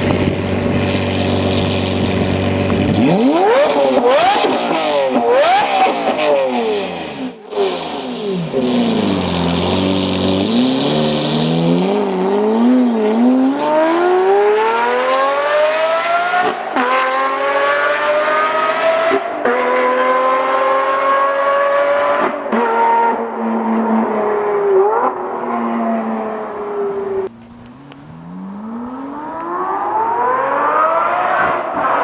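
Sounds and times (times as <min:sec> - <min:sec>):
sports car engine revving: 0:00.0 - 0:32.0.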